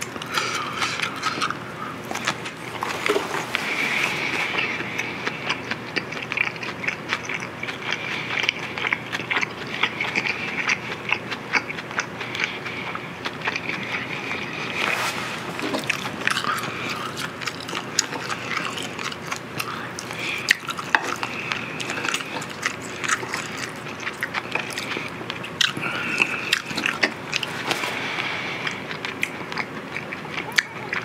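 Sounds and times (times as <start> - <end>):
chewing and biting food: 0.0 - 31.0.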